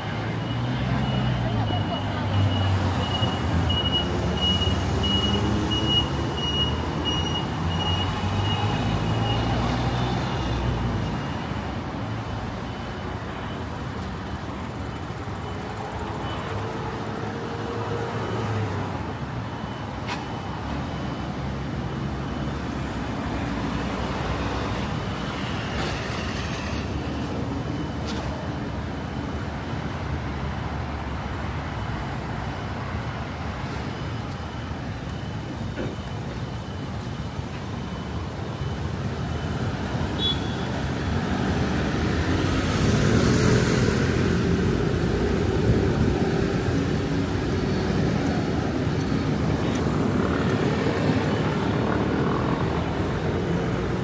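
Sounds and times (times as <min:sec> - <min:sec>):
steady road hum: 0:00.0 - 0:54.0
vehicles passing: 0:00.0 - 0:54.0.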